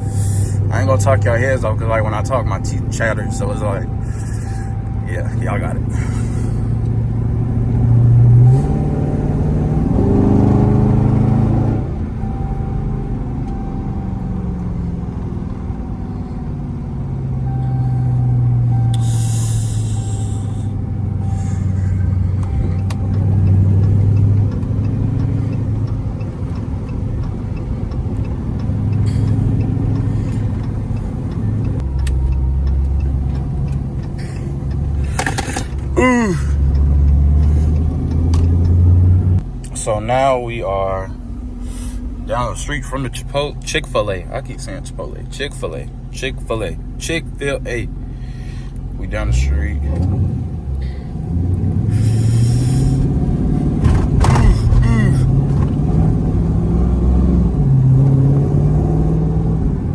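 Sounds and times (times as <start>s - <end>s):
car engine revving and accelerating: 0.0s - 59.9s.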